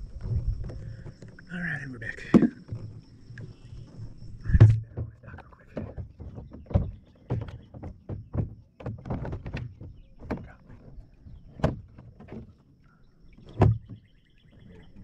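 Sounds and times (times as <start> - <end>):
kayak knocking against dock: 0.2 - 12.8, 13.4 - 15.0.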